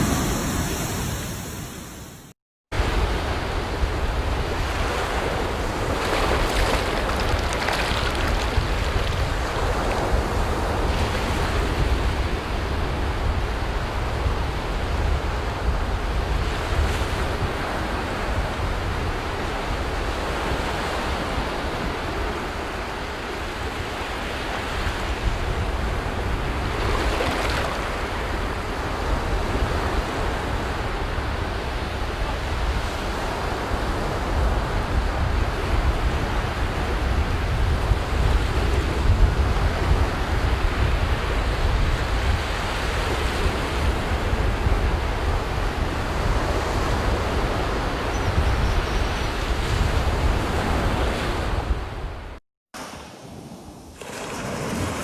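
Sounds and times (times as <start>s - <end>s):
sea waves breaking on beach: 2.8s - 48.1s, 52.8s - 55.0s
wind rumble on microphone: 2.8s - 52.4s.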